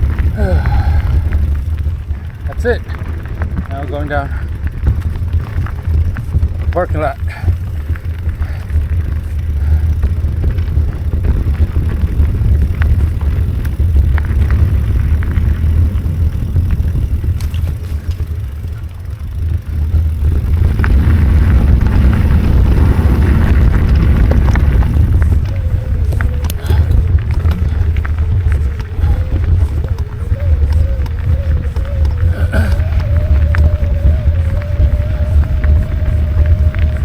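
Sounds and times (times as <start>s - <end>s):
bicycle rattling on dirt trail: 0.0s - 37.0s
wind rumbling on microphone: 0.0s - 37.0s.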